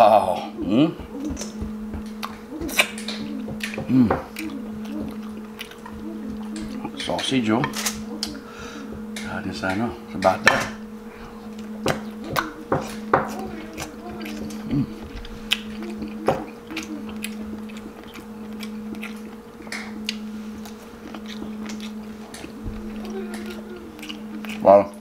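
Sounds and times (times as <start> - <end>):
murmured voice: 0.0 - 19.0, 21.4 - 25.0
steady low hum: 0.0 - 25.0
chewing with wet mouth smacks: 1.2 - 9.4, 11.2 - 25.0.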